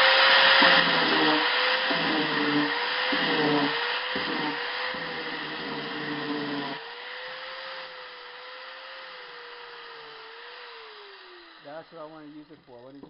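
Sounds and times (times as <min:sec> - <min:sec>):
angle grinder motor whine: 0:00.0 - 0:13.0
rough sanding noise: 0:00.0 - 0:13.0.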